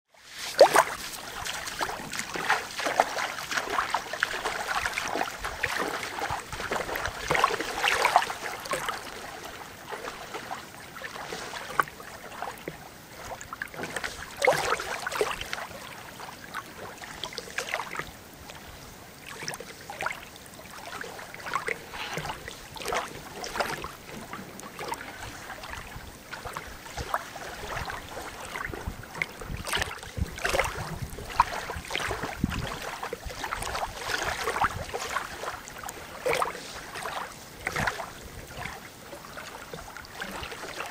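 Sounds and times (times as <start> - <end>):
small waves lapping on shore: 0.1 - 40.9.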